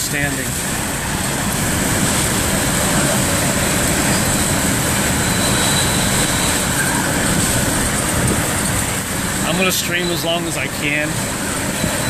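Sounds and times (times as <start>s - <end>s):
wind rushing around a car: 0.0s - 12.0s.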